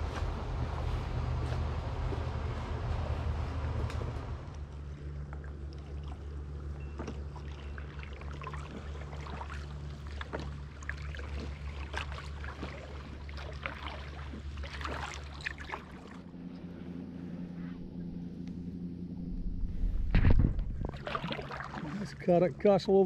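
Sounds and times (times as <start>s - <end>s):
paddle splashes and drips: 0.0s - 16.6s, 20.5s - 23.0s
steady low hum: 0.0s - 23.0s.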